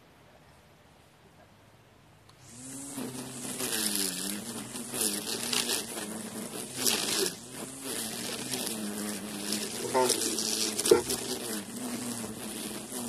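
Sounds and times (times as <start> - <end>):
electric string trimmer motor whine: 2.3 - 13.0
trimmer line hissing through grass: 2.3 - 13.0.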